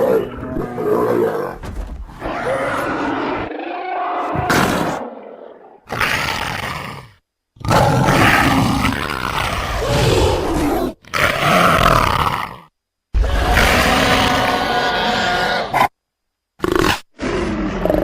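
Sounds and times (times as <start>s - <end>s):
creature roars and growls: 0.0s - 15.9s, 16.6s - 18.0s.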